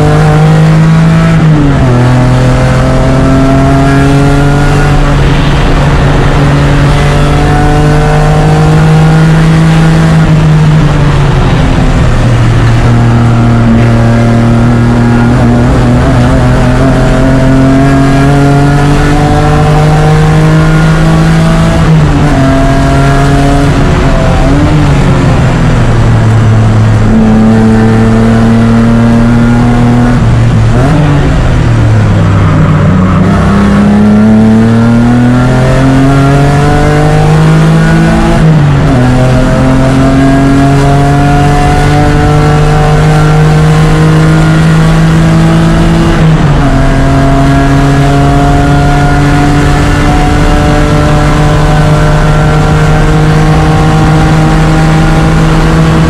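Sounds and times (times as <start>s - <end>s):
race car engine pulling hard: 0.0s - 56.0s.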